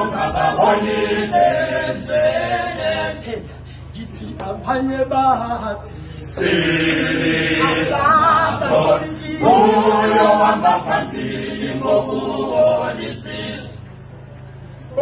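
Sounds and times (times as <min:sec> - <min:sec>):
male choir singing a cappella: 0:00.0 - 0:14.0.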